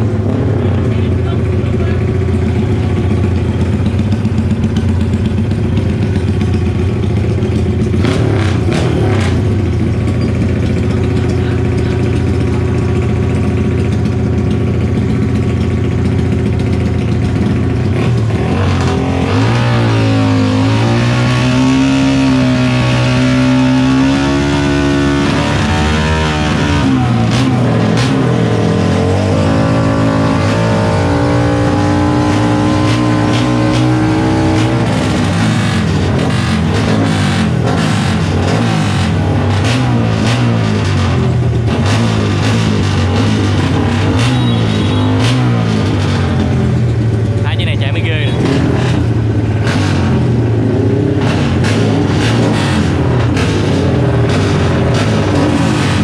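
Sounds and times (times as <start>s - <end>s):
motorcycle engine revving: 0.0s - 56.0s
motorcycle engines idling: 0.0s - 56.0s.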